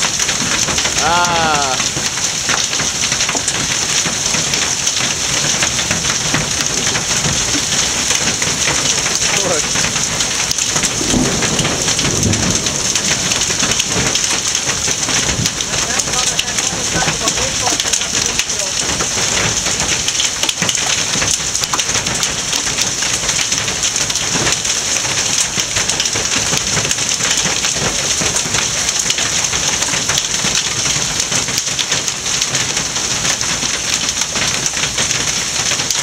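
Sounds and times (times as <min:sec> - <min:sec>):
hail clattering: 0:00.0 - 0:36.0.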